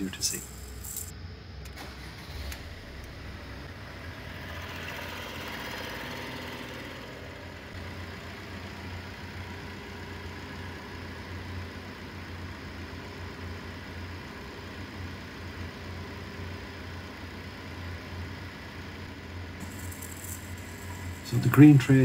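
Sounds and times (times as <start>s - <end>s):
diesel car engine idling: 0.0s - 22.0s.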